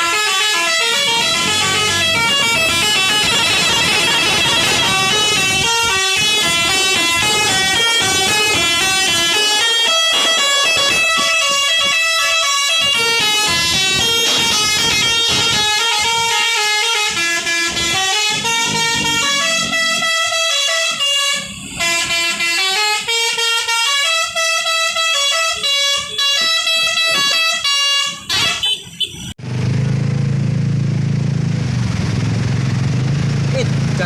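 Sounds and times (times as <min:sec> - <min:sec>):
bus air horns playing melody: 0:00.0 - 0:29.3.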